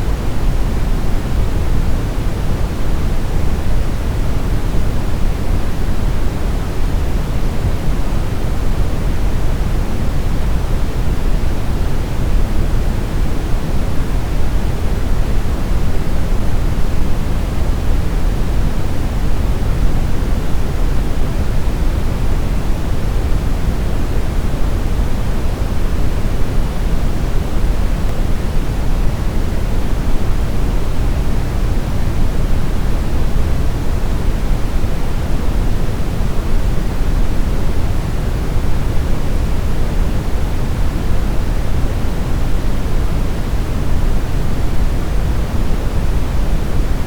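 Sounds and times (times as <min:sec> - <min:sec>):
brown noise hiss: 0:00.0 - 0:47.0.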